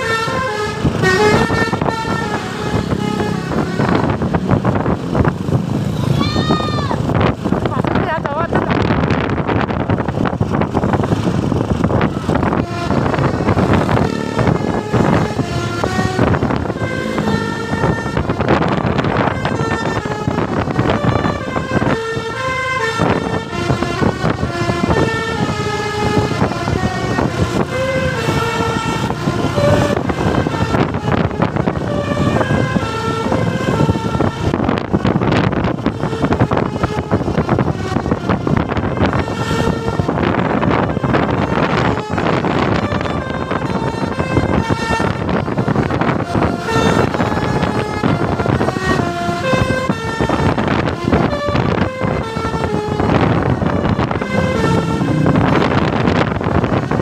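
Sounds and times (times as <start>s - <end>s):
multi-tone horn playing a tune: 0.0s - 4.3s, 12.5s - 57.0s
heavy vehicle and road noise: 0.0s - 57.0s.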